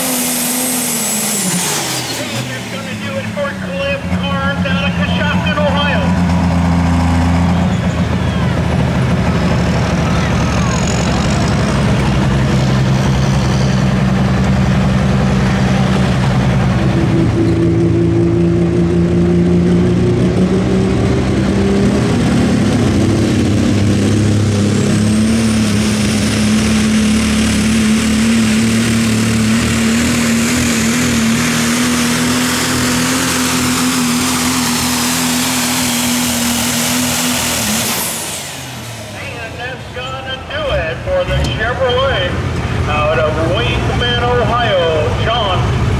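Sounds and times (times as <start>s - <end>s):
truck engine running flat out: 0.0s - 45.9s.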